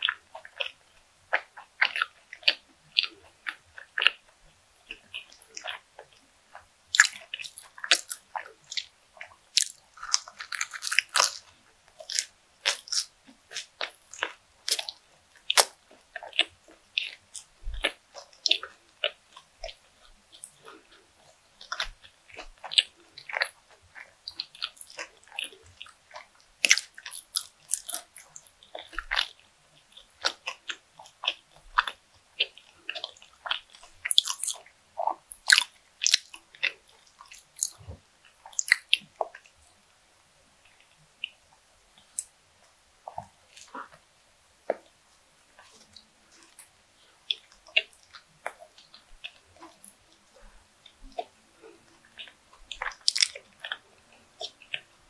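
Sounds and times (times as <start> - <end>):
chewing bread: 0.0 - 55.0.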